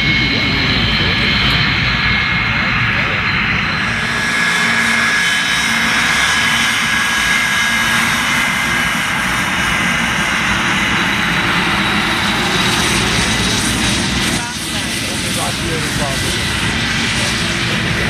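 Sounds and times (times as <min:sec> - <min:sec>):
high turbine whine: 0:00.0 - 0:18.0
jet engine roar: 0:00.0 - 0:18.0.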